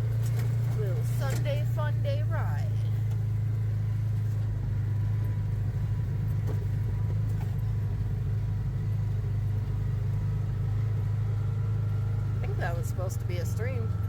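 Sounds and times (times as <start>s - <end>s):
atv engine droning: 0.0s - 14.0s.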